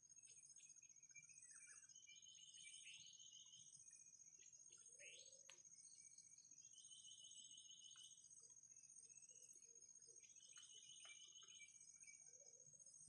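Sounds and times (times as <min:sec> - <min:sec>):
bird chirps and trills: 0:00.2 - 0:13.0.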